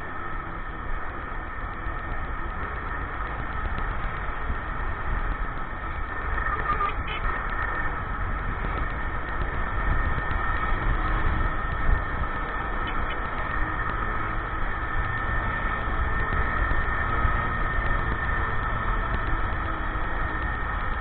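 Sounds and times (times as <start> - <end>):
motorcycle running: 0.0 - 21.0.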